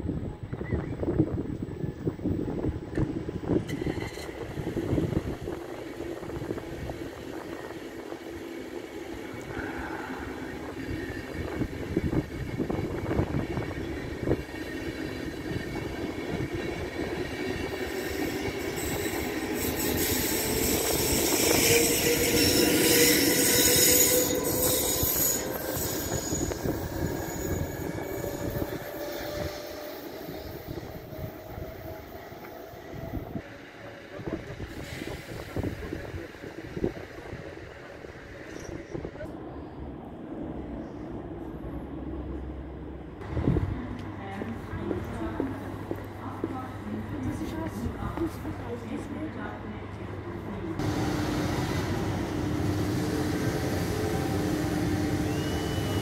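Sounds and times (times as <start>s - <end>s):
rising train whine: 0.0s - 56.0s
train wheels rumbling on rail: 0.1s - 56.0s.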